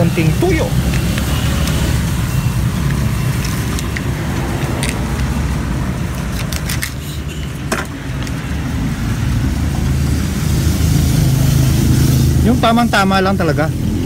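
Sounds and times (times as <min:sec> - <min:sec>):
road traffic drone: 0:00.0 - 0:14.0.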